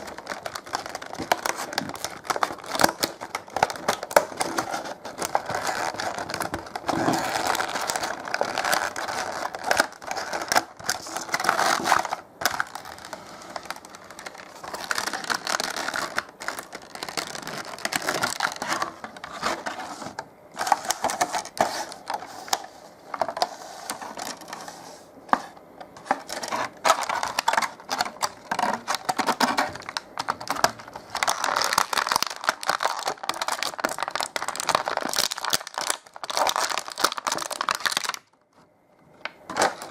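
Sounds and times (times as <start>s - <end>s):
plastic and cardboard crinkling: 0.0s - 39.9s.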